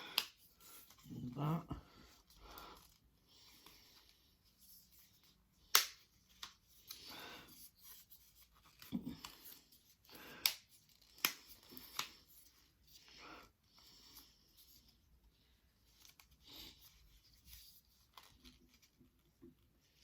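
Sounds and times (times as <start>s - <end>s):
puzzle rustling and rubbing: 0.0s - 13.2s, 13.8s - 20.0s.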